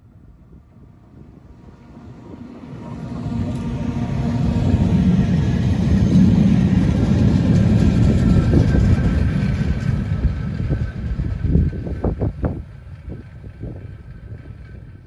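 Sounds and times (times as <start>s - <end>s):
train wheels rumbling on rail: 0.5s - 15.0s.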